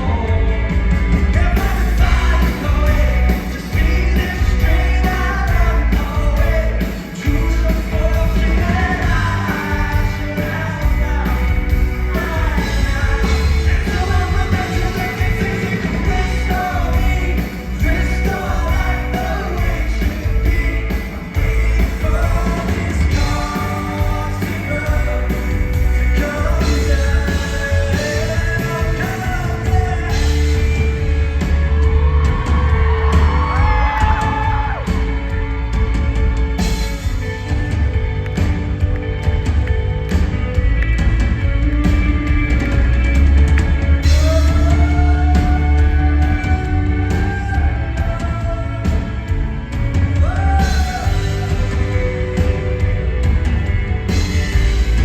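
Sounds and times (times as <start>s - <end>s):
man singing: 0.0s - 35.0s, 44.0s - 55.0s
live rock band playing: 0.0s - 55.0s.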